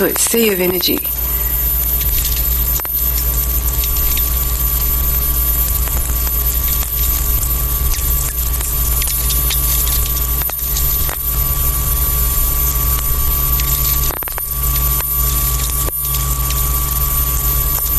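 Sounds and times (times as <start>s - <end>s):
electrical mains hum: 0.0s - 17.9s.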